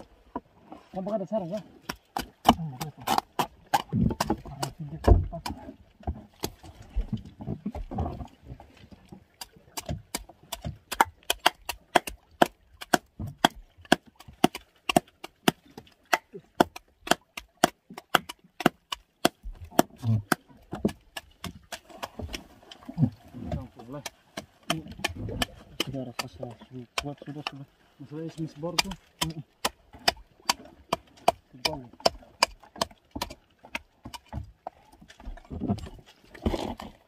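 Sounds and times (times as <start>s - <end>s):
sharp wooden knocks: 1.8s - 8.2s, 9.4s - 22.4s, 23.0s - 27.6s, 28.7s - 34.6s.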